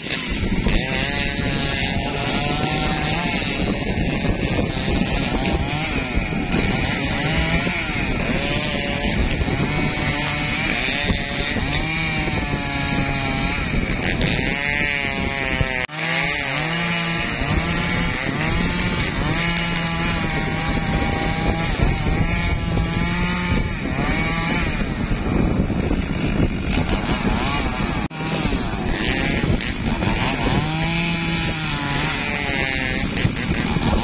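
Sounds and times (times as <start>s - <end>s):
chainsaw cutting wood: 0.0s - 34.0s.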